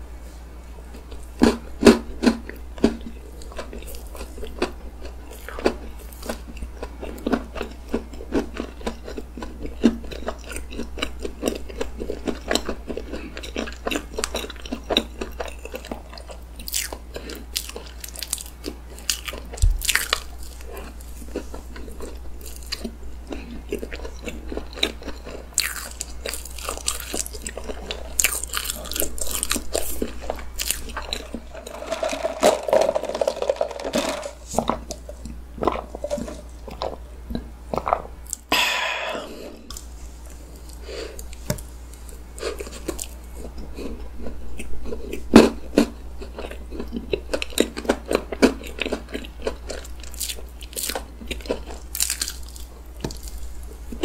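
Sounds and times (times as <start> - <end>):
chewing cake: 0.9 - 32.6, 34.5 - 38.5, 39.2 - 54.0.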